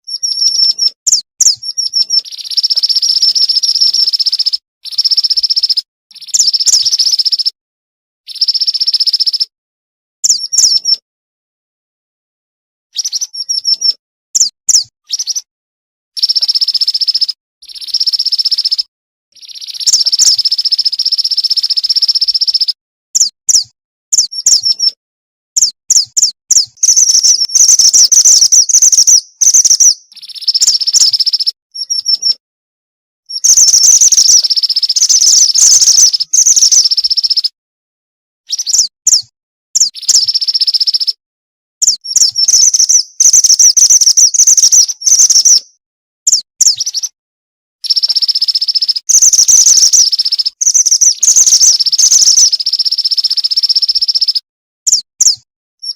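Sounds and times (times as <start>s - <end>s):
bird chirps and buzzing trills: 0.1s - 7.5s, 8.3s - 9.5s, 10.2s - 11.0s, 13.0s - 15.4s, 16.2s - 24.9s, 25.6s - 32.4s, 33.3s - 37.5s, 38.5s - 41.2s, 41.8s - 45.7s, 47.8s - 55.9s.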